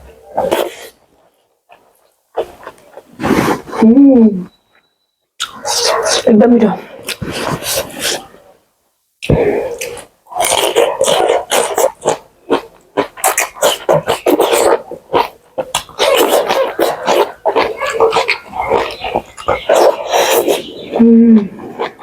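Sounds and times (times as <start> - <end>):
wet chewing and slurping: 0.2 - 3.9, 5.4 - 8.4, 9.2 - 22.0.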